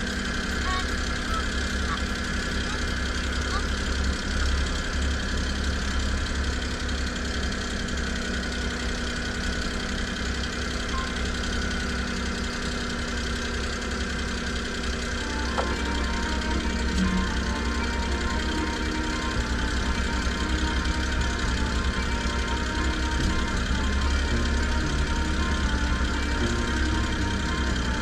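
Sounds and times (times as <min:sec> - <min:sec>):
small van engine idling: 0:00.0 - 0:28.0.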